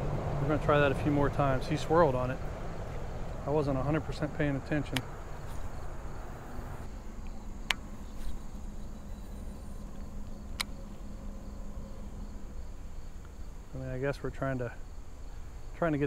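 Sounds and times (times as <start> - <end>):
insects chirping: 0.0 - 16.0
low outdoor rumble: 0.0 - 16.0.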